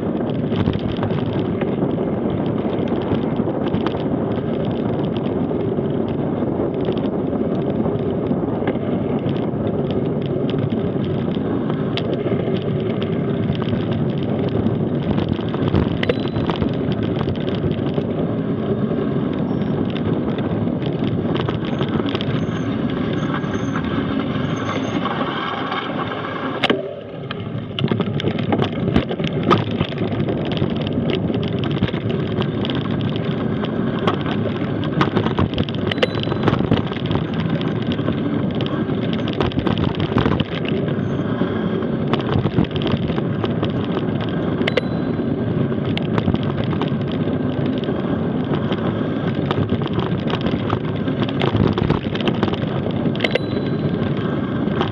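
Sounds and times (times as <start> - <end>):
bike clicks and rattles: 0.0 - 54.9
tyres rumbling on gravel: 0.0 - 54.9.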